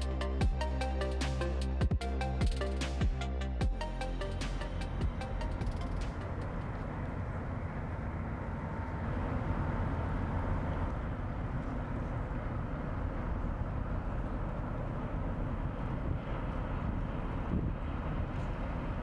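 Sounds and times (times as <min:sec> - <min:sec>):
ship diesel engine rumble: 0:00.0 - 0:19.0.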